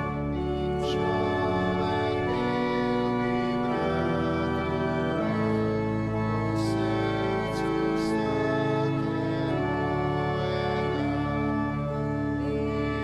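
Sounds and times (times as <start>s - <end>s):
church organ playing hymn chords: 0.0s - 13.0s.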